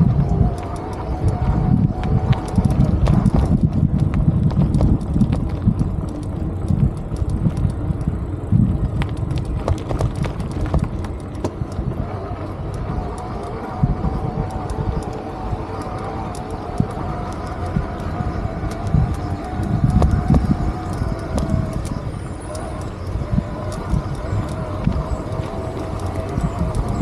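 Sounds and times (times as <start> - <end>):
sharp rattling clicks: 0.0 - 27.0
steady hum: 0.0 - 27.0
wind and road rumble: 0.0 - 27.0.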